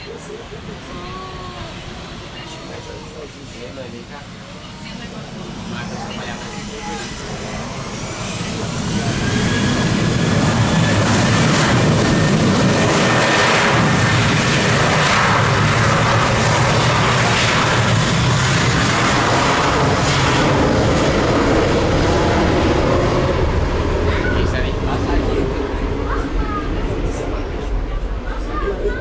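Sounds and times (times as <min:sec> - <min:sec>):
jet engines at high power: 0:00.0 - 0:29.0.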